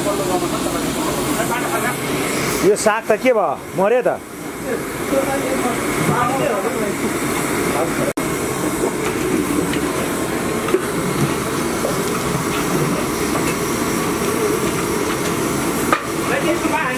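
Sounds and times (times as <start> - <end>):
loud steady noise: 0.0 - 16.9.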